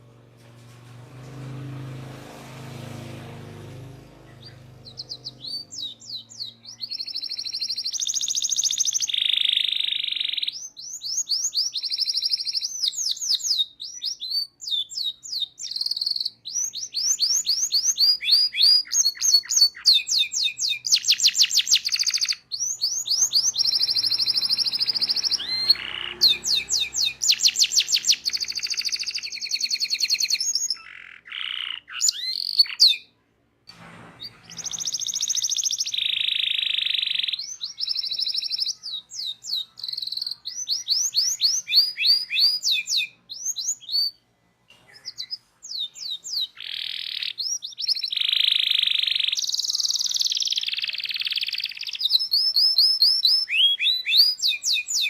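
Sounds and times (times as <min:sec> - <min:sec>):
canary singing: 0:01.4 - 0:33.2, 0:34.2 - 0:55.0.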